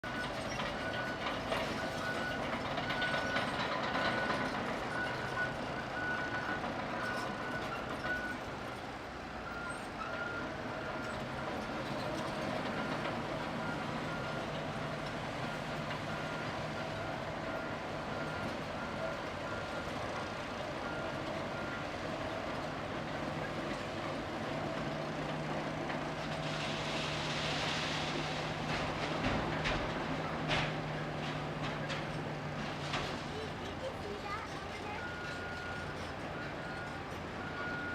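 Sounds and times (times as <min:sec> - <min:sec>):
bulldozer diesel engine running: 0:00.0 - 0:37.9.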